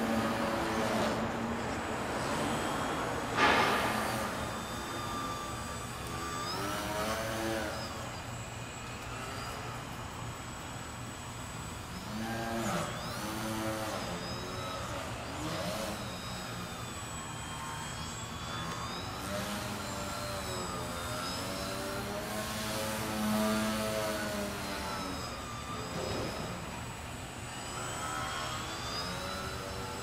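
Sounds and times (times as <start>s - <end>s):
electric model plane motor whining: 0.0s - 30.0s.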